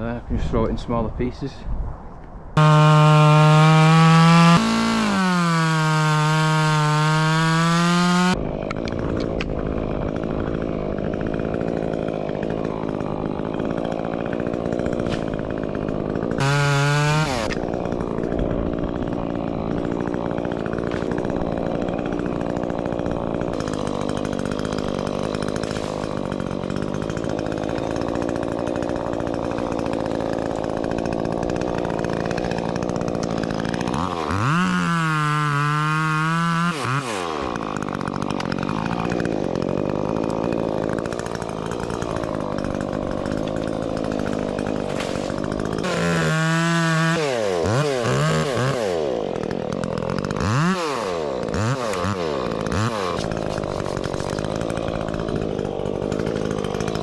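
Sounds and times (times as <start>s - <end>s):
chainsaw cutting wood: 2.6s - 57.0s.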